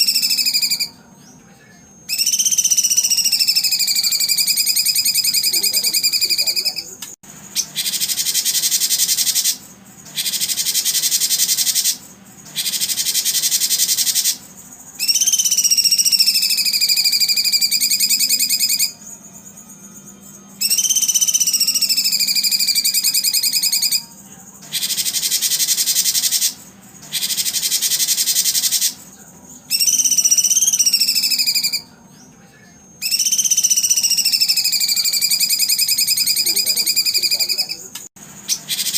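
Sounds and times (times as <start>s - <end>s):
birdsong trills and whistles: 0.0s - 38.9s.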